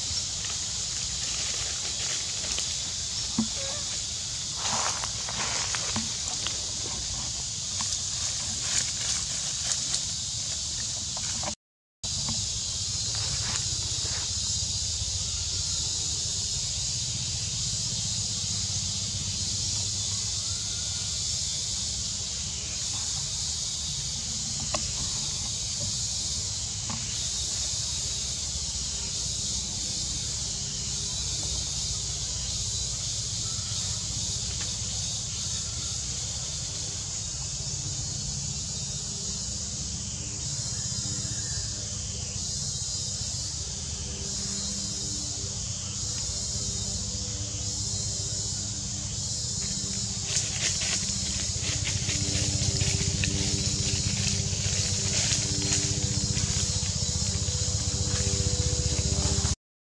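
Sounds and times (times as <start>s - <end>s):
high-pitched insect chorus: 0.0s - 59.6s.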